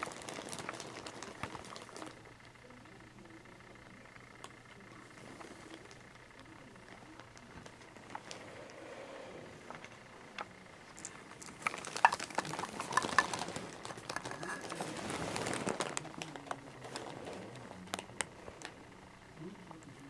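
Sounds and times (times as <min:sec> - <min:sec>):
rustling and crinkling: 0:00.0 - 0:02.6, 0:04.3 - 0:20.0.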